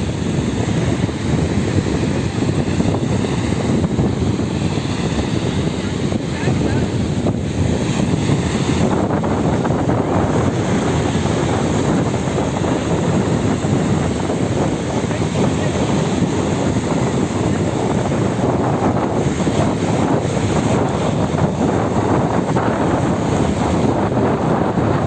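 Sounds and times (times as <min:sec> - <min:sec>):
sea water washing: 0:00.0 - 0:25.0
wind buffeting microphone: 0:00.0 - 0:25.0.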